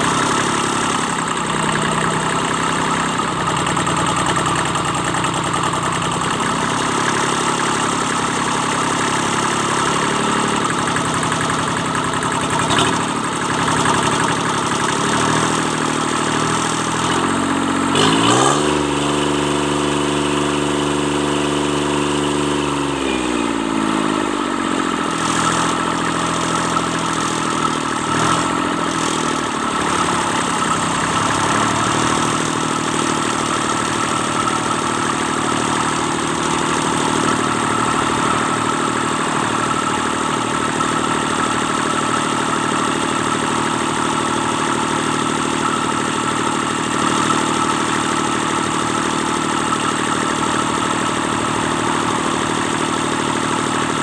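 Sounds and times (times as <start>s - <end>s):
diesel engine revving and idling: 0.0s - 54.0s.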